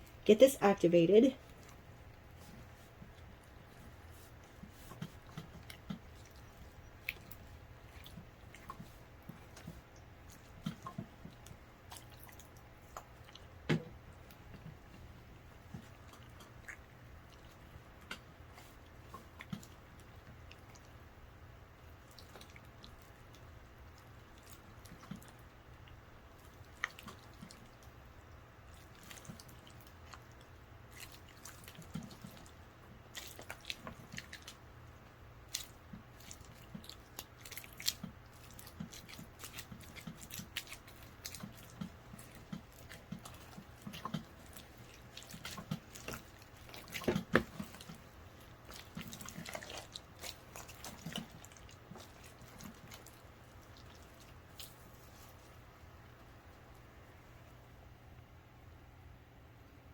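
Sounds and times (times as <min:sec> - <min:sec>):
slime squelching: 0:00.0 - 0:57.3.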